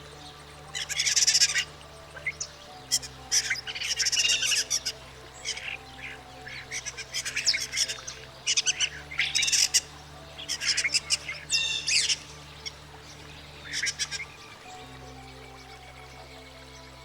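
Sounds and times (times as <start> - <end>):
soft background music: 0.0 - 17.0
starling singing: 0.0 - 17.0.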